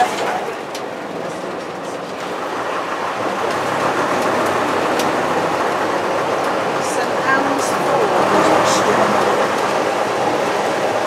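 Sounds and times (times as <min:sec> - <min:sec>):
bus engine running: 0:00.0 - 0:11.0
road noise: 0:00.0 - 0:11.0.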